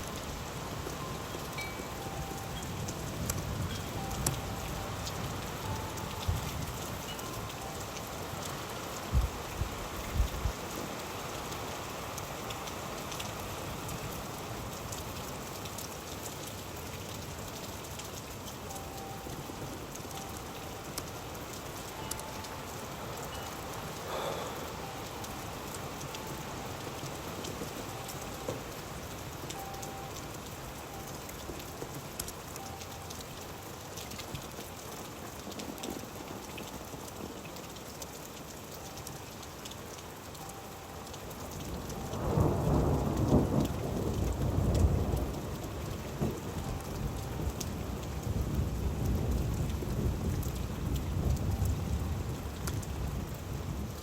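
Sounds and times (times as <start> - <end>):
raindrops ticking on hard surface: 0.0 - 54.0
steady rain: 0.0 - 54.0.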